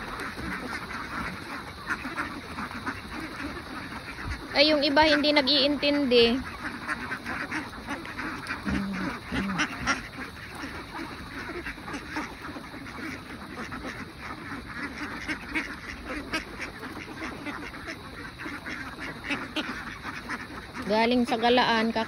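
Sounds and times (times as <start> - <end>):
bills pecking at feed: 0.0 - 22.0
ducks quacking: 0.0 - 22.0.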